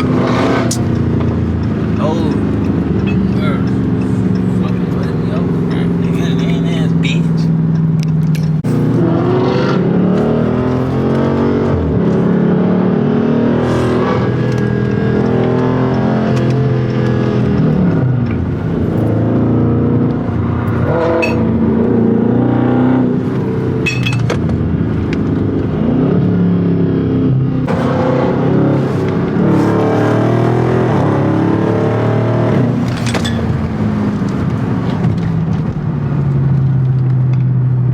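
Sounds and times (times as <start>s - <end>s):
car engines revving: 0.0s - 37.9s.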